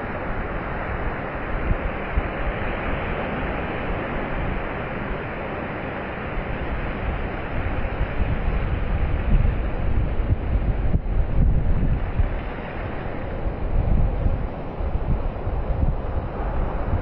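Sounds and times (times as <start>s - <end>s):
ocean surf breaking on beach: 0.0s - 17.0s
wind buffeting microphone: 0.0s - 17.0s.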